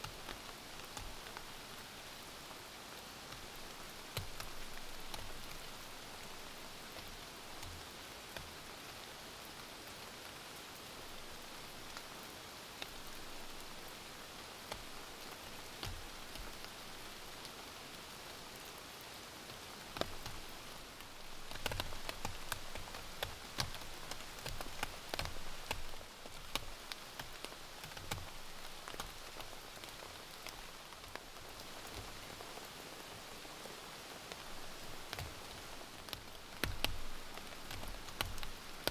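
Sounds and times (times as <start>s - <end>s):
raindrops tapping: 0.0s - 9.6s, 11.1s - 17.6s, 19.5s - 38.9s.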